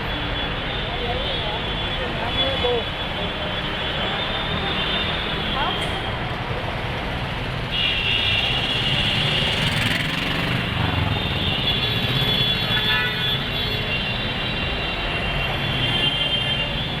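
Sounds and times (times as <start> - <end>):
urban traffic noise: 0.0 - 17.0.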